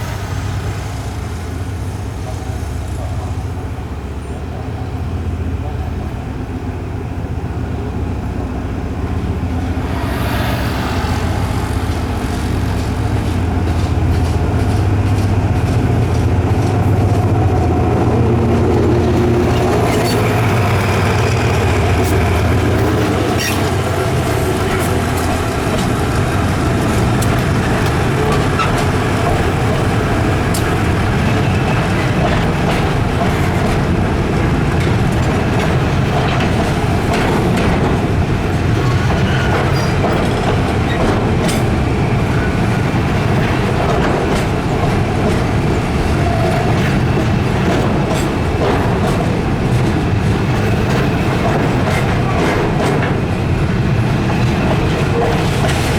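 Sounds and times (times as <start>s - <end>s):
diesel engine under load: 0.0s - 55.9s
train wheels clicking over rail joints: 8.3s - 55.9s.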